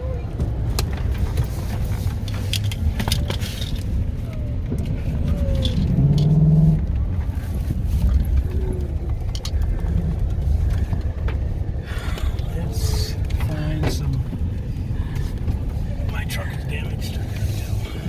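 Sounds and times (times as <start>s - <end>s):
strong wind buffeting a truck: 0.0s - 18.0s.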